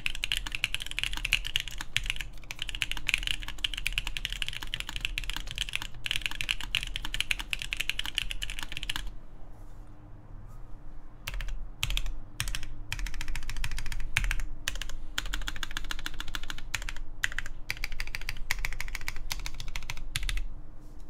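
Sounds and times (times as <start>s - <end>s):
mechanical keyboard typing: 0.0s - 9.1s, 11.2s - 20.5s.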